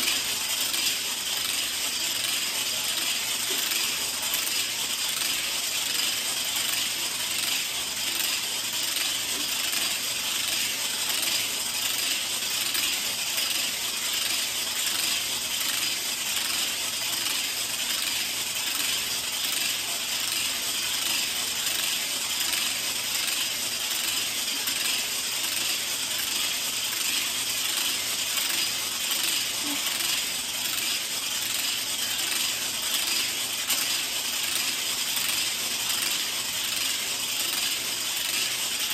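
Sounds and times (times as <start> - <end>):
hula hoop clicking and rattling: 0.0 - 38.9.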